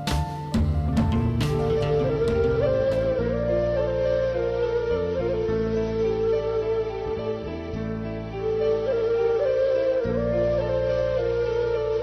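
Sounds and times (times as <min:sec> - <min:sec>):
slow melody with sliding notes: 0:00.0 - 0:12.0
sustained low notes: 0:00.6 - 0:11.9.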